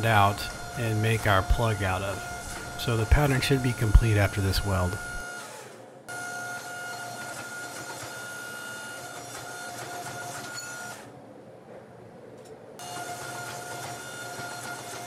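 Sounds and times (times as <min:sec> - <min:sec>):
hydraulic press whine: 0:00.0 - 0:11.2, 0:12.8 - 0:15.0.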